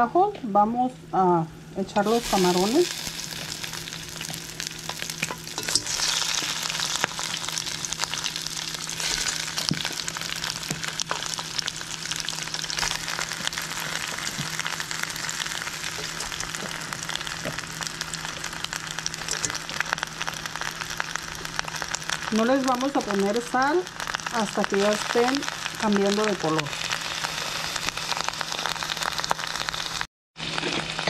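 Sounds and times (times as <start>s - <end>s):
shrimp sizzling in hot oil: 2.0s - 31.0s.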